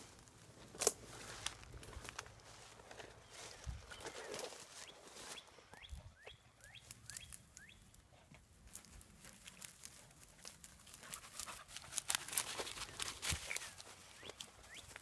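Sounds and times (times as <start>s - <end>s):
dry grass and leaves rustling: 0.0s - 15.0s.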